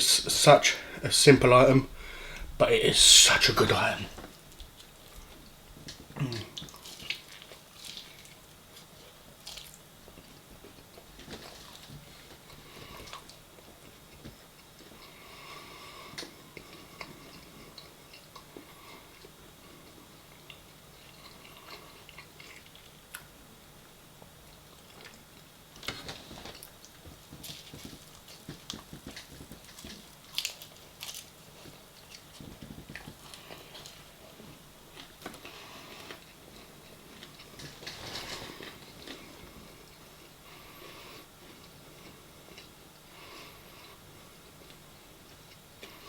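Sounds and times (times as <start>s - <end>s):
chewing and crunching food: 4.5s - 46.0s.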